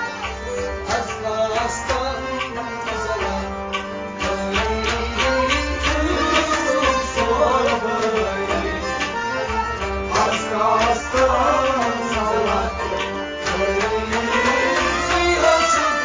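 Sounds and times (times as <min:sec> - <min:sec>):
devotional music: 0:00.0 - 0:16.0
tabla beat: 0:00.0 - 0:16.0.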